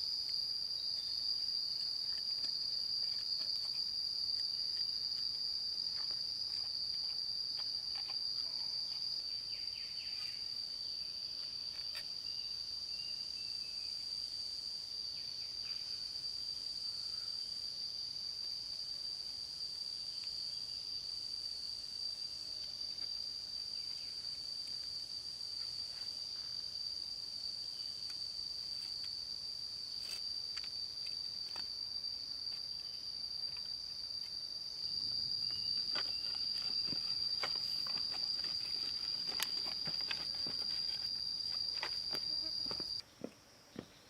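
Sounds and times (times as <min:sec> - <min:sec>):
high-pitched insect drone: 0:00.0 - 0:43.1.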